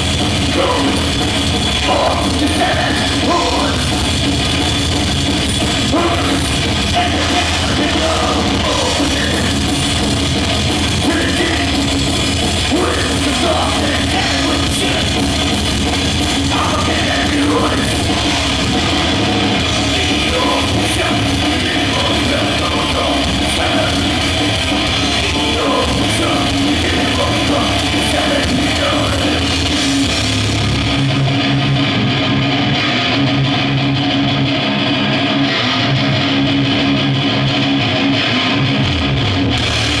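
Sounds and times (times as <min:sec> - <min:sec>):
distorted electric guitar: 0:00.0 - 0:40.0
metal band playing: 0:00.0 - 0:40.0.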